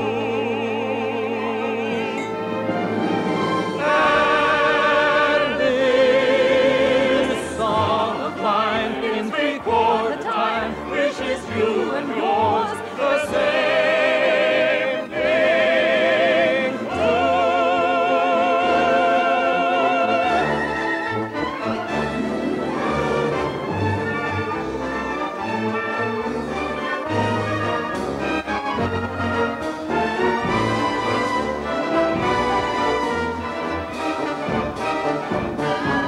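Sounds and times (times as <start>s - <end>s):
operatic singing with vibrato: 0.0s - 36.0s
orchestral accompaniment: 0.0s - 36.0s.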